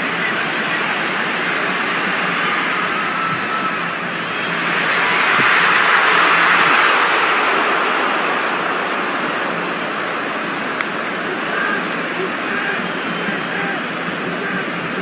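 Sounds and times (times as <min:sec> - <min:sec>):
stadium crowd roaring: 0:00.0 - 0:15.0.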